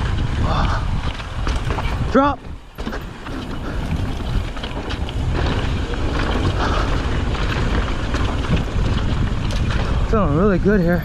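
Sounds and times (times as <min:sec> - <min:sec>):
bike tyres rolling on dirt: 0:00.0 - 0:11.0
gravel and bike rattles: 0:00.0 - 0:11.0
wind on microphone: 0:00.0 - 0:11.0.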